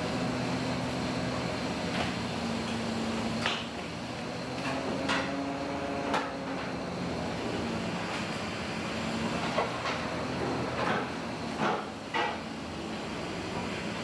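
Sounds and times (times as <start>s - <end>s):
boat engine and machinery drone: 0.0s - 14.0s.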